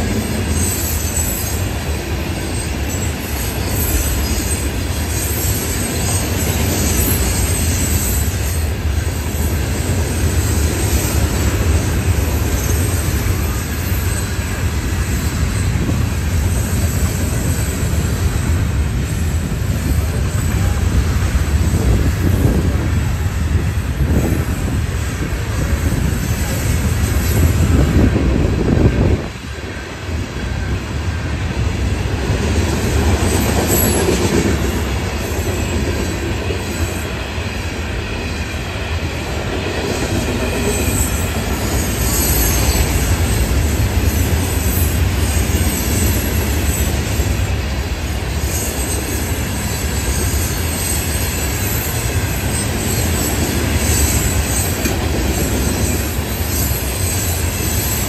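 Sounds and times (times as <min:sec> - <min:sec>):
freight train rumbling past: 0:00.0 - 0:58.0
street traffic: 0:00.0 - 0:58.0.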